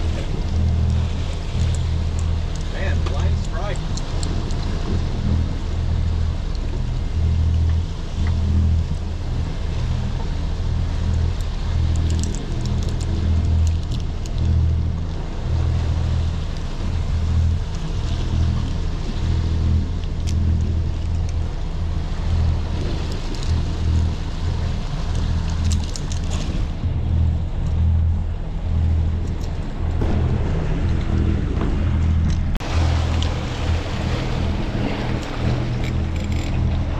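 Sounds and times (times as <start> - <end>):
boat engine rumble: 0.0 - 36.9
water noise: 0.0 - 36.9
wind: 0.0 - 36.9.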